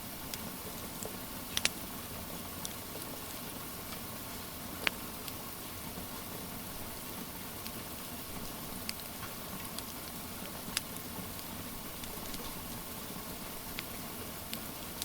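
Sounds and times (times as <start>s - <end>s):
steady rain hiss: 0.0s - 15.0s
wood fire crackling and popping: 0.0s - 15.0s.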